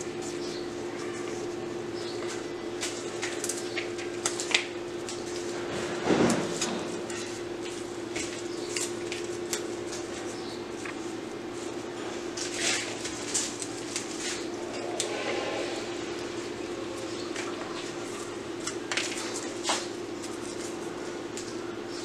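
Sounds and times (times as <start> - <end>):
steady low hum: 0.0 - 22.0
stems clicking and rustling: 2.2 - 15.2, 16.2 - 22.0.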